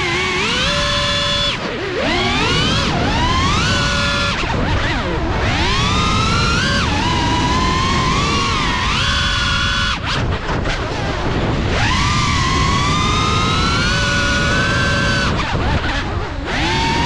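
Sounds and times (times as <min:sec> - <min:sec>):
drone motors whining: 0:00.0 - 0:17.0
wind noise: 0:00.0 - 0:17.0.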